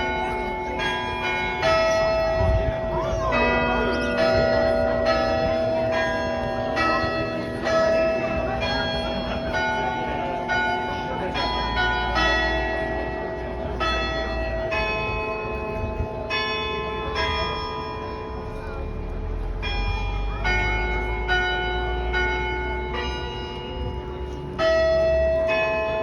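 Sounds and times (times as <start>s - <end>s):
church bells ringing a hymn: 0.0s - 26.0s.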